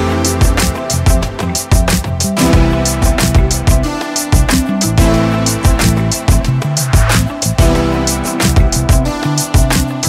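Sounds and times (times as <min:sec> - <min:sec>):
music with drum beat and bass: 0:00.0 - 0:10.0.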